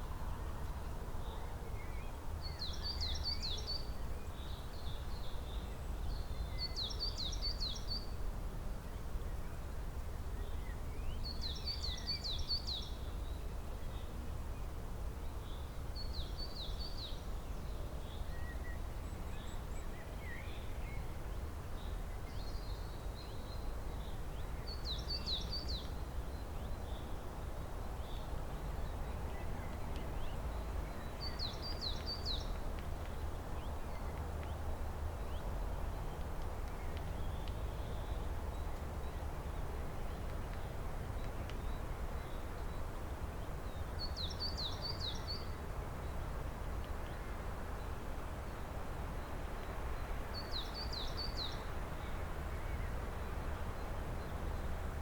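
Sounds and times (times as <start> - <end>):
songbird singing: 0.0 - 8.2, 8.9 - 55.0.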